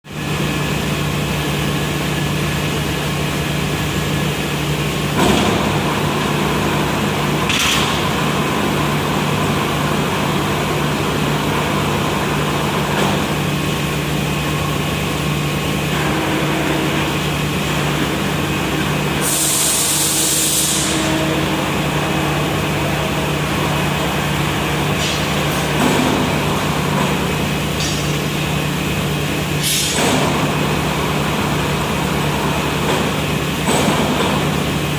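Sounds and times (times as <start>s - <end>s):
furnace running: 0.1s - 34.9s.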